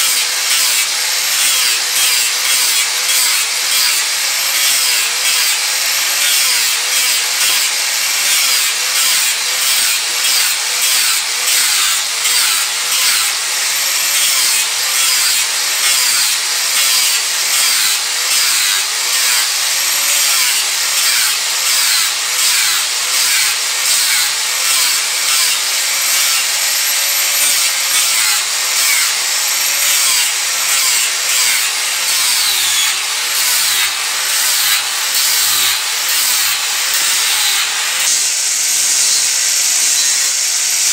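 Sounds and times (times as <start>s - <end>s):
angle grinder grinding wood: 0.0s - 40.9s.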